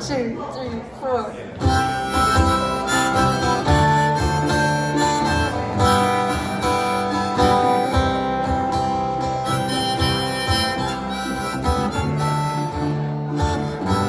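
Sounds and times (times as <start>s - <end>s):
acoustic guitar strumming: 1.6s - 14.0s
harmonica long notes: 1.6s - 14.0s.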